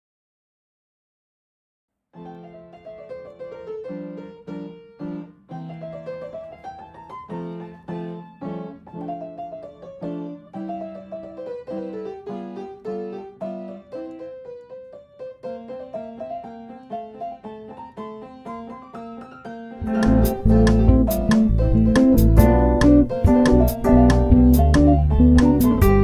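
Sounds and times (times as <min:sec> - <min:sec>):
solo piano music: 0:02.2 - 0:26.0.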